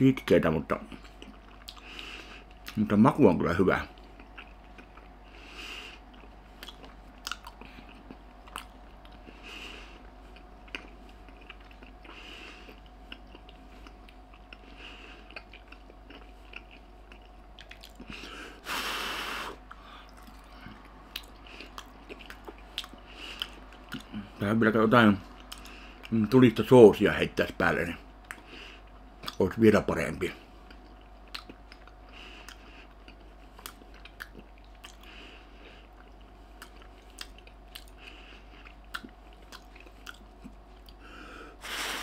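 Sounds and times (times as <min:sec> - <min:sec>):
person chewing meat: 0:00.8 - 0:02.8, 0:03.8 - 0:26.4, 0:28.0 - 0:29.6, 0:30.3 - 0:41.8.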